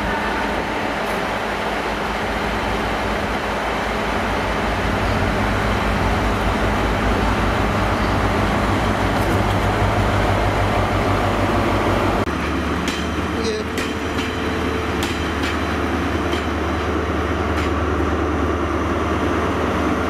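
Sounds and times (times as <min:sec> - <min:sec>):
train diesel engine droning: 0:00.0 - 0:20.0.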